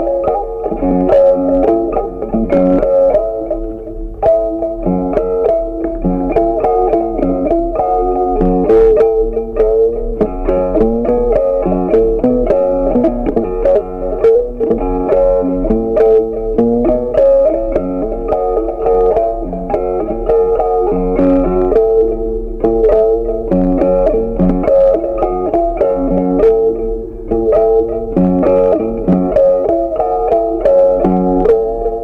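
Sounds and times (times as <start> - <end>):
plucked-string music with bass: 0.0 - 32.0.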